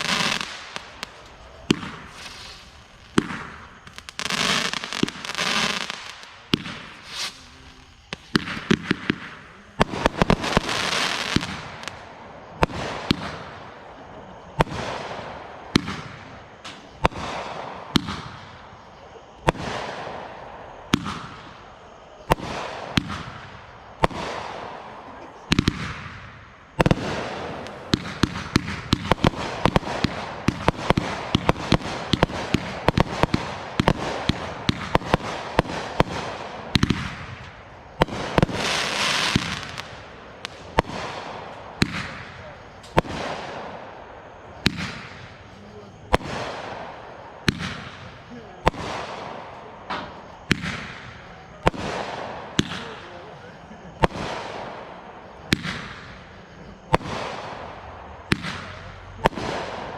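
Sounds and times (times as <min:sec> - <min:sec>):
fireworks bangs: 0:00.0 - 0:59.9
fireworks hissing crackle: 0:00.0 - 0:59.9
rapid fireworks pops: 0:00.0 - 0:59.9.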